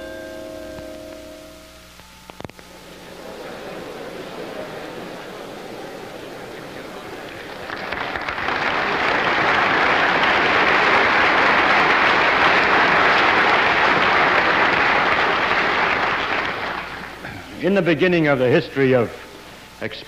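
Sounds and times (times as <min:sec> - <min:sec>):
audience applauding: 0:02.7 - 0:19.1.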